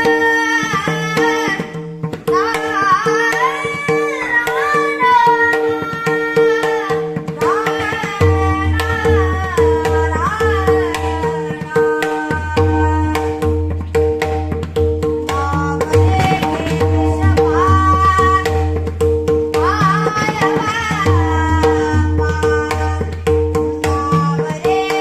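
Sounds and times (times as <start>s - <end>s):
man singing devotional song: 0.0s - 13.7s, 15.2s - 25.0s
tabla strokes: 0.0s - 25.0s.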